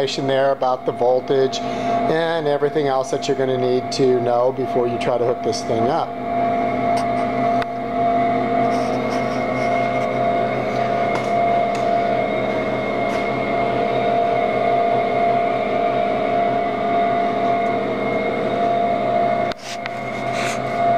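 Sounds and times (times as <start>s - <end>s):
machine hum with whine: 0.0s - 20.9s.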